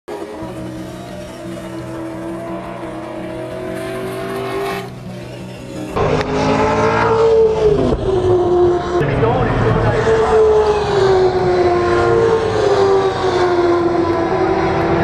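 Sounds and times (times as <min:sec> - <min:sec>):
distant race car engine: 0:00.1 - 0:15.0
race car passing close: 0:00.1 - 0:15.0.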